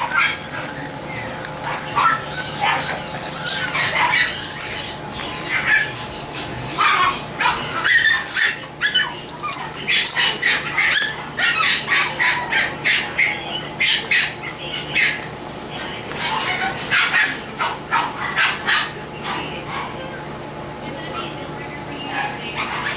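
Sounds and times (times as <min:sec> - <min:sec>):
puppies barking: 0:00.0 - 0:22.9.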